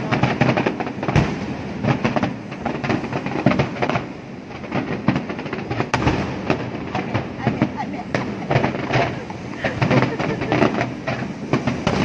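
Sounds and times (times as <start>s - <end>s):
fireworks bangs and crackles: 0.0s - 12.0s
heavy low firework boom: 0.0s - 12.0s.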